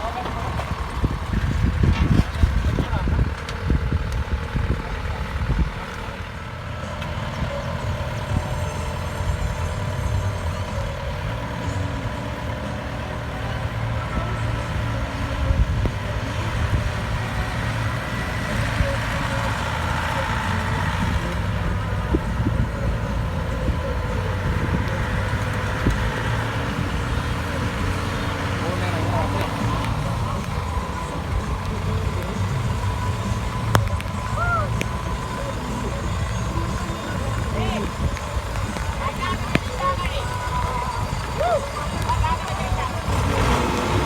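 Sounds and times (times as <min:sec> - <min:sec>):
combine harvester engine running: 0:00.0 - 0:44.0.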